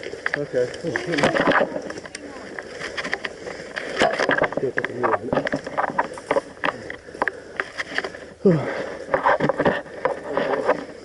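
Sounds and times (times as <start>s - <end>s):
rustling and clicking of gear: 0.0s - 11.0s.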